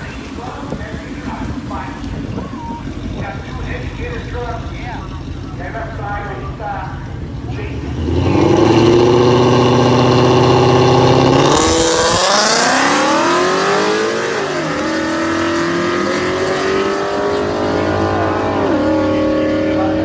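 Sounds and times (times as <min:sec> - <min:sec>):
drag racing engine revving: 0:00.0 - 0:20.0.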